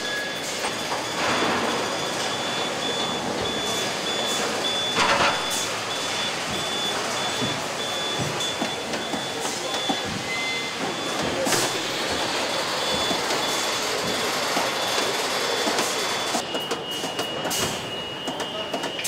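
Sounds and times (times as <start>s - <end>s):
factory machinery: 0.0s - 19.0s
high beeping tone: 0.0s - 19.0s.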